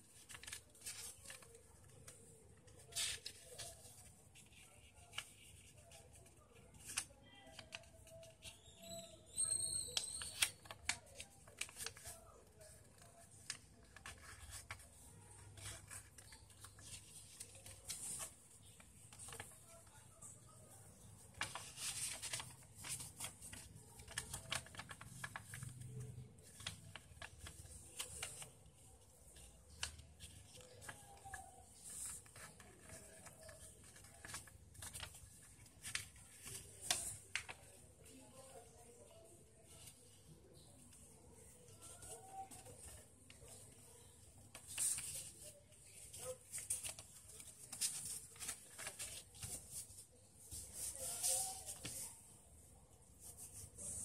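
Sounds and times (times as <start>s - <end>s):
paper rustling and crinkling: 0.0s - 54.0s.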